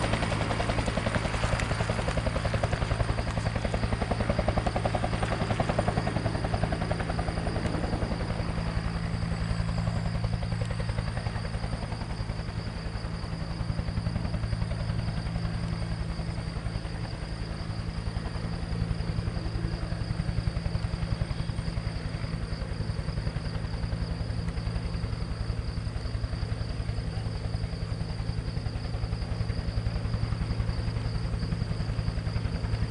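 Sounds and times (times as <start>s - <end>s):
helicopter rotor beat: 0.0s - 32.9s
turbine whine: 0.0s - 32.9s.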